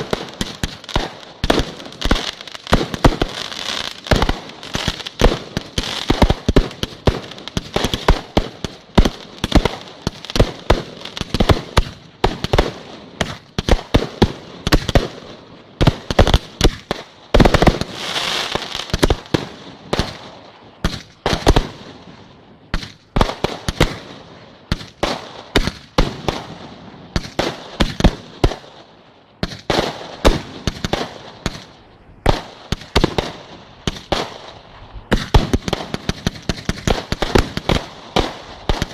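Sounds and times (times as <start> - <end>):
fireworks crackling and hissing: 0.0 - 38.9.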